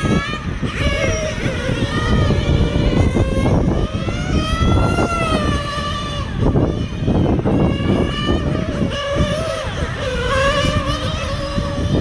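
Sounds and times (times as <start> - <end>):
small engine revving whine: 0.0 - 12.0
wind rumble on microphone: 0.0 - 12.0.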